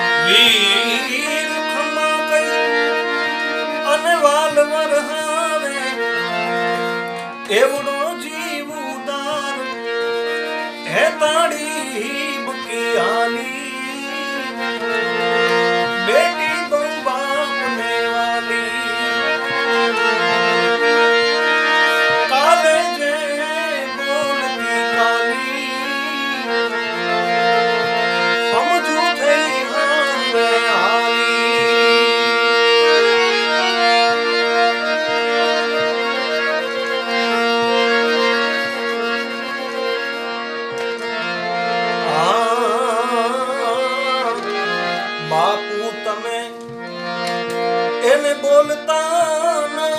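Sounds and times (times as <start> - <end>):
harmonium folk melody: 0.0 - 49.9.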